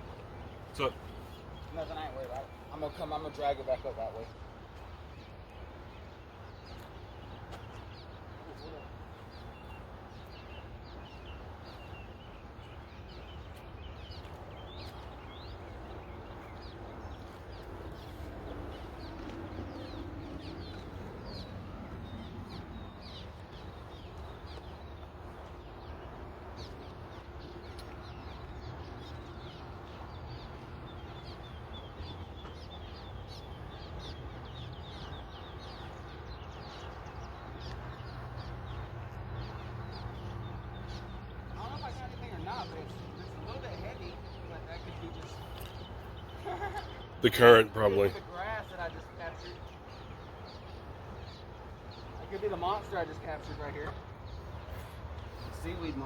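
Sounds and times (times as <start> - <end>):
birds chirping: 0.0 - 56.0
low outdoor background noise: 0.0 - 56.0.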